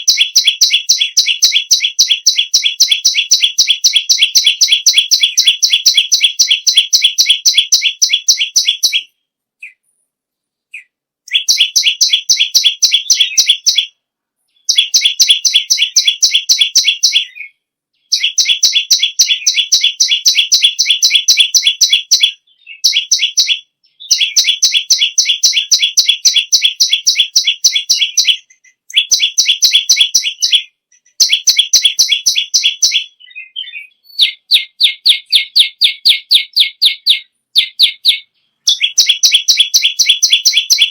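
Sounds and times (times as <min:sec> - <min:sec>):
songbird trilling high notes: 0:00.0 - 0:09.1, 0:11.3 - 0:13.9, 0:14.6 - 0:17.5, 0:18.1 - 0:40.9.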